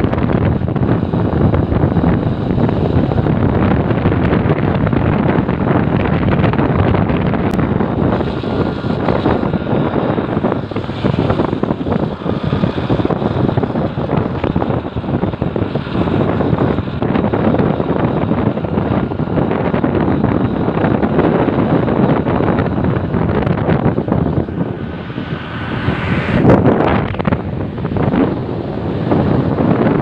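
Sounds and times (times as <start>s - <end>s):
motorcycle riding noise: 0.0s - 30.0s
wind buffeting microphone: 0.0s - 30.0s.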